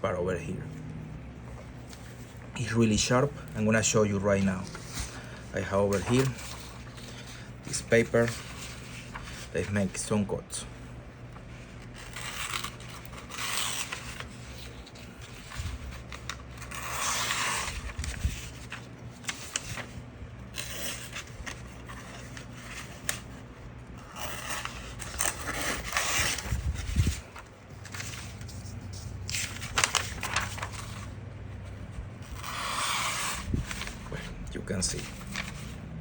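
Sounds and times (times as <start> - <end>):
paper rustling: 1.5 - 10.2, 11.3 - 35.8.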